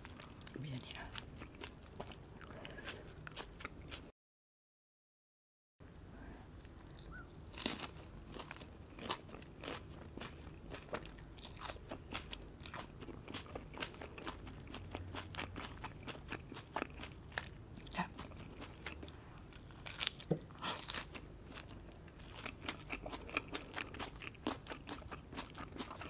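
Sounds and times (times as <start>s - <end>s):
chewing crisp lettuce: 0.0s - 4.1s, 6.6s - 26.0s.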